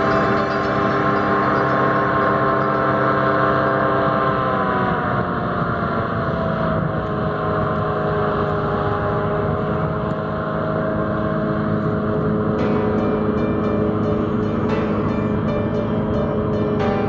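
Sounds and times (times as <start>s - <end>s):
hovercraft droning hum: 0.0s - 17.0s.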